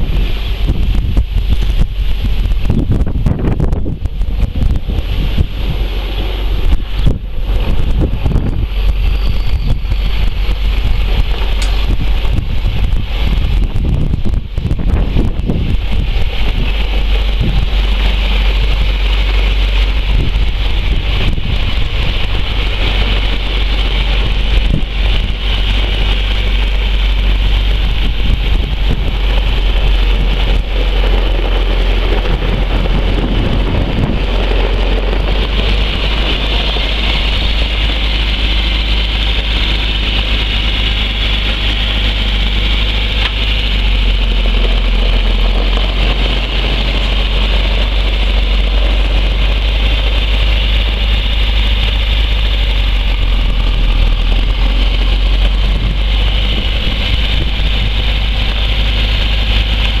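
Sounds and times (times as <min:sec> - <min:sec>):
diesel engine idling: 0:00.0 - 1:00.0.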